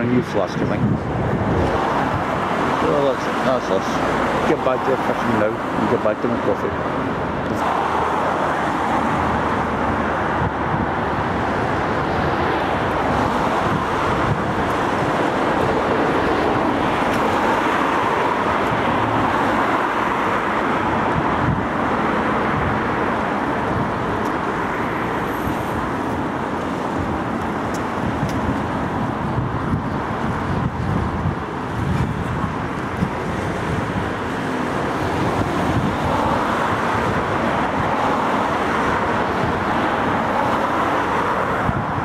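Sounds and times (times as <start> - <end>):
cars passing on road: 0.0 - 42.0.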